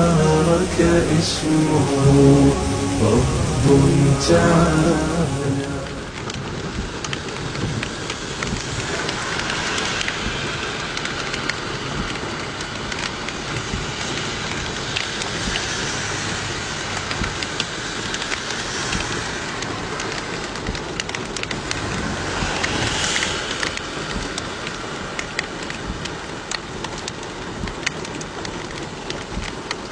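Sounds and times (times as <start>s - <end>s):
raindrops ticking on surfaces: 0.0s - 29.9s
steady rain falling: 0.0s - 29.9s.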